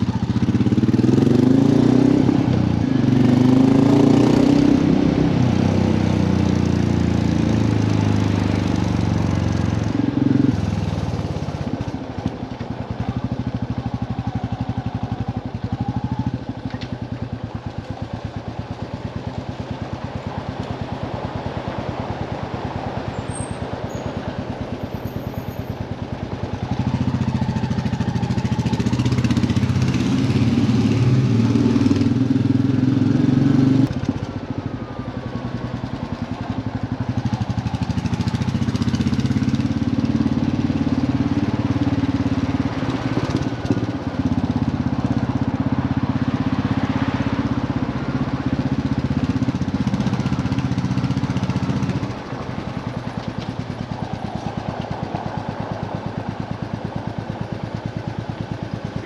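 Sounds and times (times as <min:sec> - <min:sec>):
motorcycle engine riding: 0:00.0 - 0:59.0.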